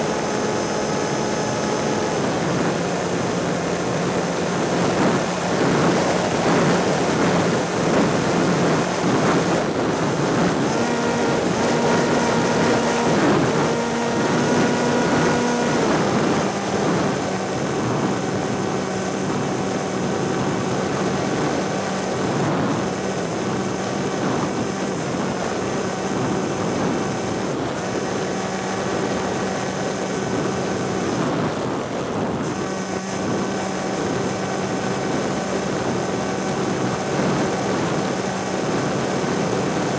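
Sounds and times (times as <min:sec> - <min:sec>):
propeller aircraft engine humming: 0:00.0 - 0:39.9
wind on microphone: 0:00.0 - 0:39.9.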